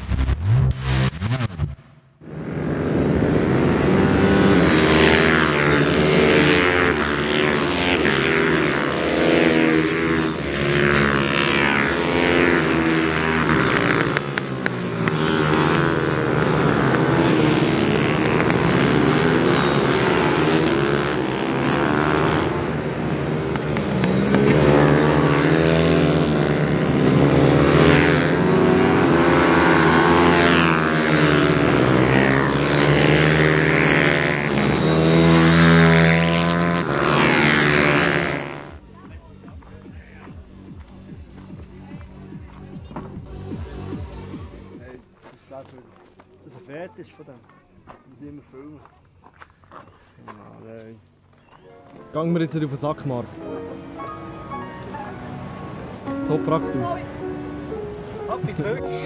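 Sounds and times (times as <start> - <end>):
minibike engines revving past: 2.2 - 59.0.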